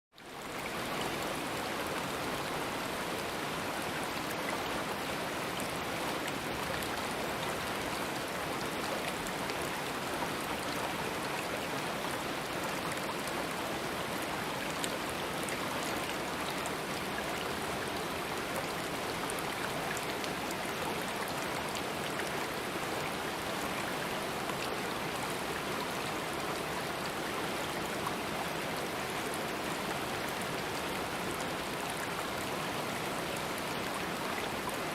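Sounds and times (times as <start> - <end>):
water splashes and trickles: 0.1 - 34.9
stream flowing over rocks: 0.2 - 34.9.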